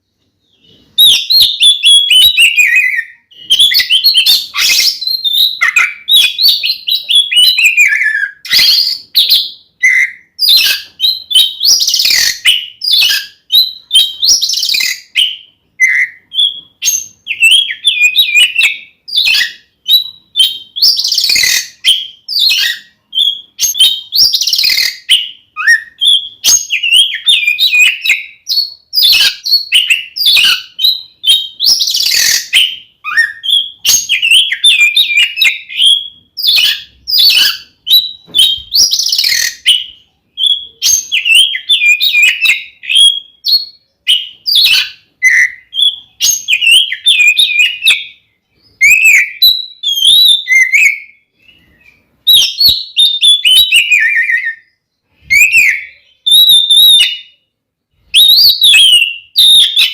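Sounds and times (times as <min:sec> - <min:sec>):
bird singing loudly: 0:00.4 - 0:57.4, 0:58.1 - 0:59.9.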